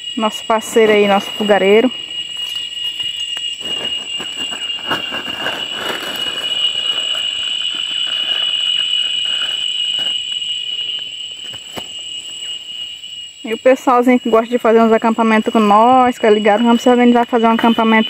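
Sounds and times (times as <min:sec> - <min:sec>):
cicadas droning: 0:00.0 - 0:18.0.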